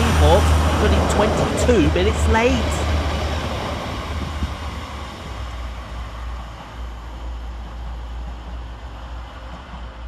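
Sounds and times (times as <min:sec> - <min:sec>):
diesel train running by: 0:00.0 - 0:10.0.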